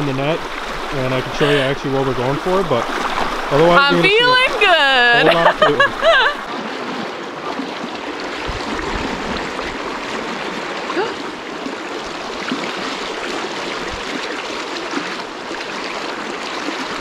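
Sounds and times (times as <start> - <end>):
river rapids rushing: 0.0 - 17.0
water splashing around wader: 0.0 - 17.0.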